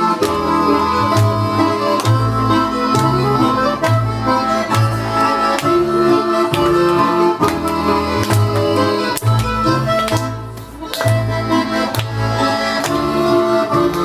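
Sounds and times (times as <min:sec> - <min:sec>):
accordion folk tune: 0:00.0 - 0:14.0.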